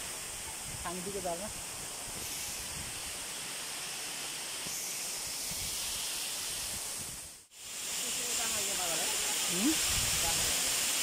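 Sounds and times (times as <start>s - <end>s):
waterfall rushing hiss: 0.0s - 11.0s.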